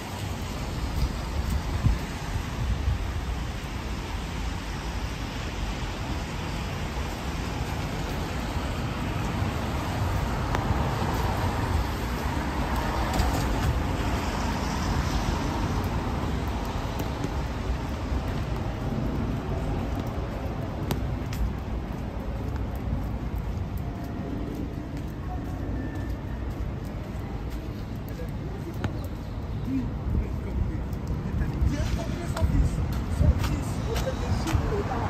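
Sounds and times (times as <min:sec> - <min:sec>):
vehicle passing with tyre noise: 0:00.0 - 0:28.3
traffic rumble on wet road: 0:00.0 - 0:35.0.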